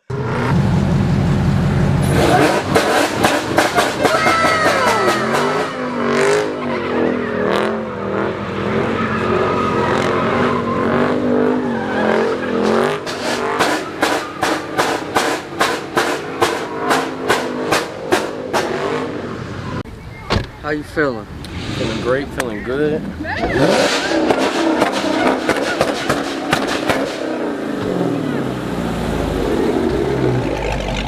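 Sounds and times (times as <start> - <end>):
car engine revving hard: 0.0 - 19.6, 21.3 - 31.0
tires squealing: 0.0 - 31.0.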